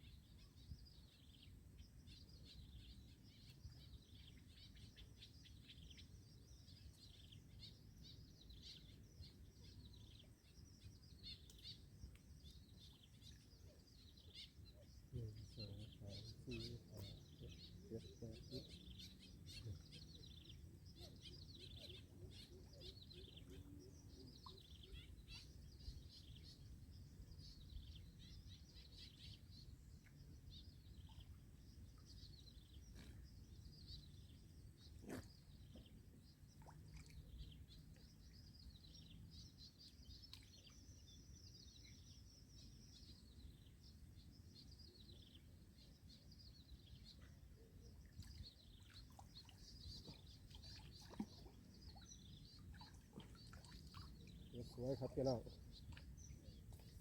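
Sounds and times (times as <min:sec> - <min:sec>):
small birds chirping: 0:00.1 - 0:57.0.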